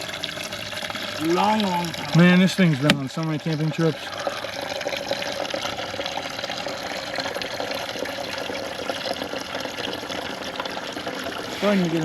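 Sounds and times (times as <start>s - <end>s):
water pouring into a container: 0.0s - 12.0s.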